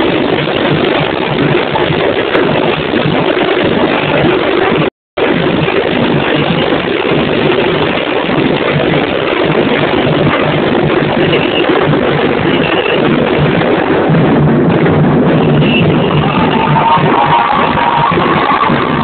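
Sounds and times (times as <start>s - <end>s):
distorted samba drumming: 0.0s - 19.0s.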